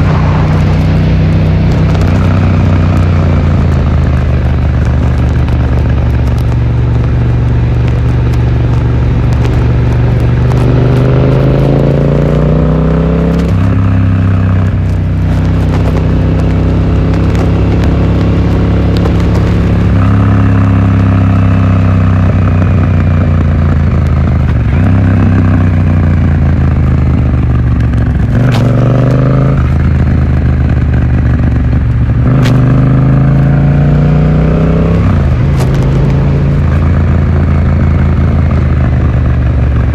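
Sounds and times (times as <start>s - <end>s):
muffled motorcycle engine revving: 0.0s - 39.9s
wind noise: 0.0s - 39.9s.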